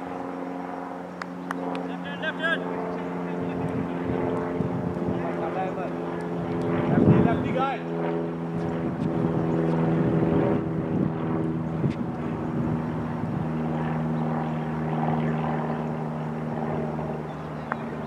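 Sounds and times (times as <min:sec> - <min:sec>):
steady motor drone: 0:00.0 - 0:18.0.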